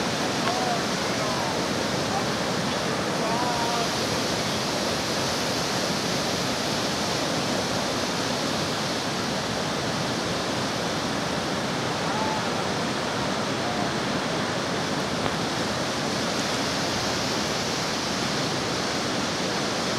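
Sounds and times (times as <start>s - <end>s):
river rapids rushing over stones: 0.0s - 19.9s.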